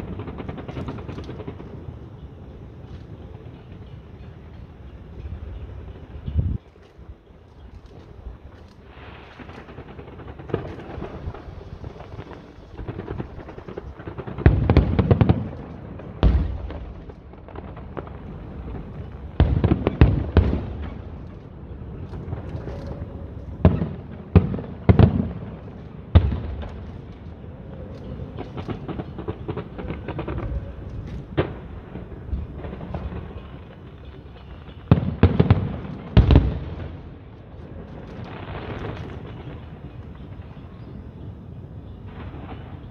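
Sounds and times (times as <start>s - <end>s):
fireworks bursting with bangs: 0.0s - 4.5s, 7.6s - 42.9s.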